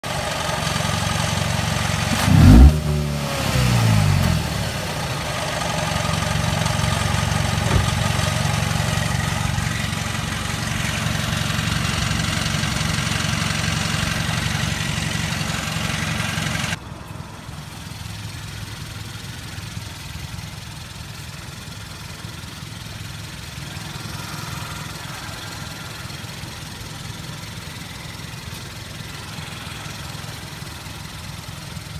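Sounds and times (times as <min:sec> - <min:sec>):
car engine revving and idling: 0:00.0 - 0:16.8, 0:17.6 - 0:31.9.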